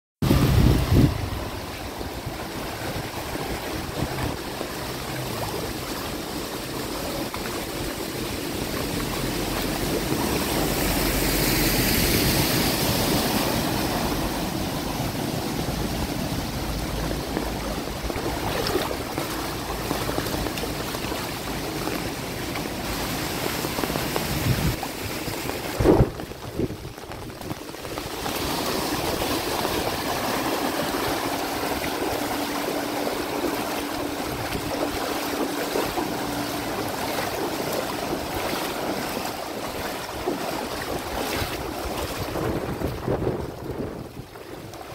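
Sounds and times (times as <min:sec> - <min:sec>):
rain: 0:00.2 - 0:44.9
running floodwater: 0:00.2 - 0:44.9
vehicles passing through water: 0:00.2 - 0:44.9.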